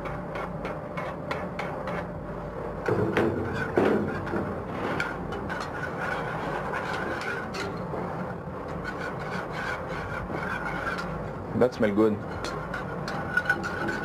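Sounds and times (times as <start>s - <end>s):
wire whisk scraping a saucepan: 0.0s - 2.1s, 3.4s - 14.0s.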